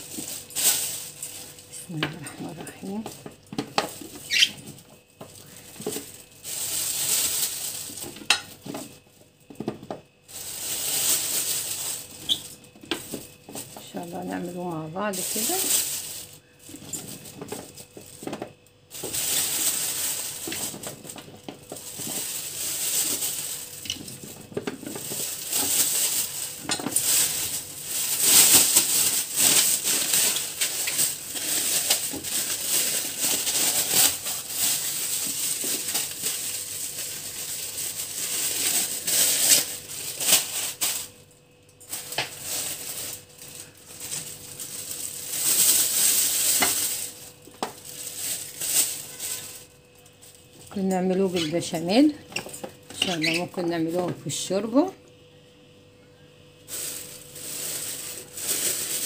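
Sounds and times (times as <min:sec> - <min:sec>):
plastic bag crinkling: 0:00.0 - 0:54.9, 0:56.6 - 0:59.0.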